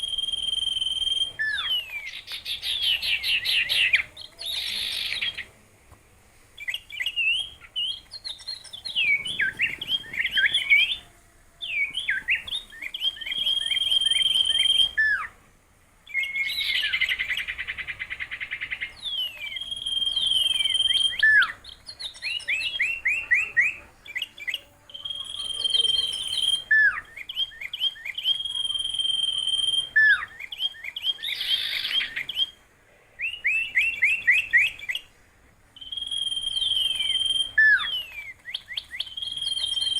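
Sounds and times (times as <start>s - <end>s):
songbird singing: 0.0s - 5.7s, 6.4s - 39.9s.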